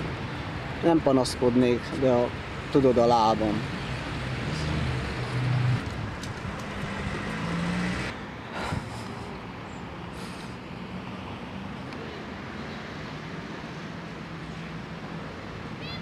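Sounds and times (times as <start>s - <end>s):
urban road traffic: 0.0s - 16.0s.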